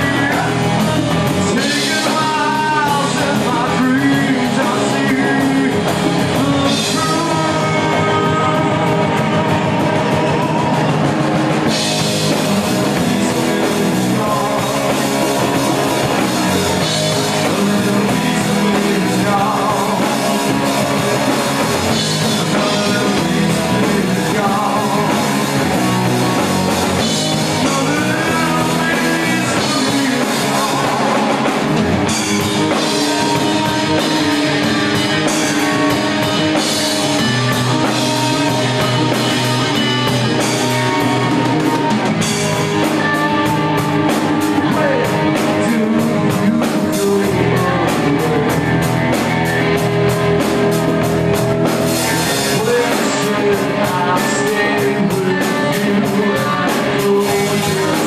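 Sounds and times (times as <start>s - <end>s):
bass guitar: 0.0s - 58.0s
drum kit: 0.0s - 58.0s
electric guitar: 0.0s - 58.0s
man singing: 0.0s - 58.0s.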